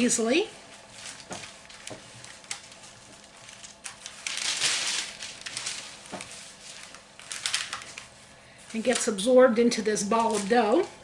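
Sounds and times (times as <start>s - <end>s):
wax paper crinkling: 0.7s - 11.0s.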